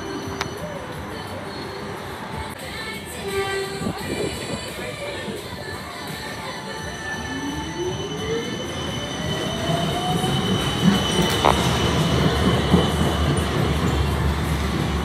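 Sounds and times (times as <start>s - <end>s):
tram motor whine: 0.0s - 15.0s
wheels rumbling on rails: 0.0s - 15.0s.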